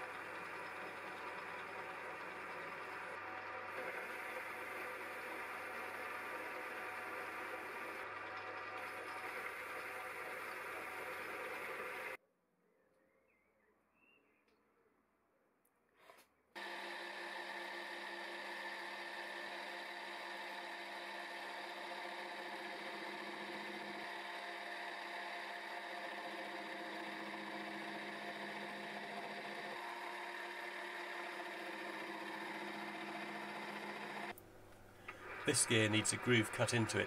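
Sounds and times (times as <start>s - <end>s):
milling machine hum: 0.0s - 12.2s, 16.6s - 37.0s.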